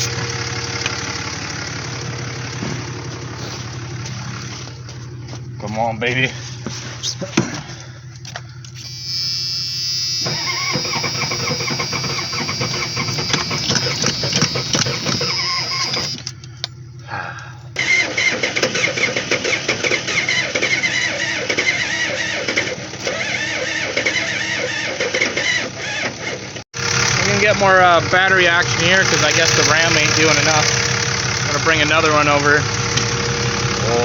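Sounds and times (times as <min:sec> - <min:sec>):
diesel engine starter cranking: 0:00.0 - 0:06.3, 0:07.1 - 0:34.0.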